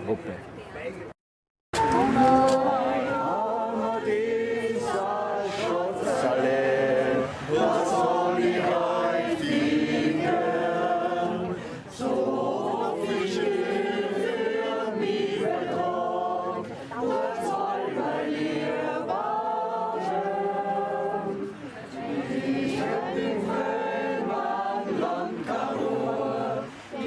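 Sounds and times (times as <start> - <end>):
group singing without accompaniment: 1.8 - 27.0.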